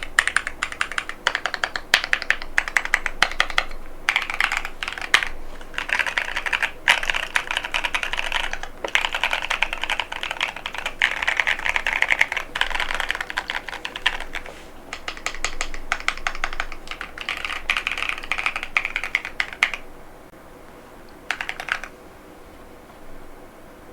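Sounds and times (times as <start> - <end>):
mechanical keyboard typing: 0.0 - 19.8, 21.3 - 21.9.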